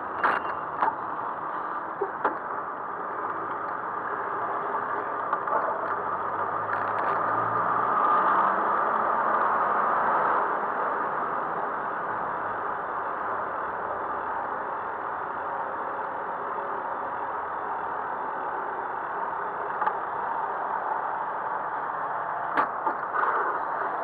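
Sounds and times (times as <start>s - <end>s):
city traffic noise: 0.0s - 24.0s.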